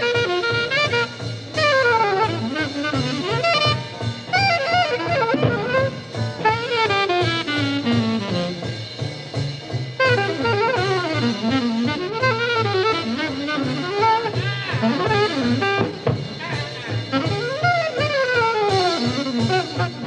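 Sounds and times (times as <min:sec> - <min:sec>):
bass: 0:00.0 - 0:20.0
drums: 0:00.0 - 0:20.0
fast saxophone line: 0:00.0 - 0:20.0.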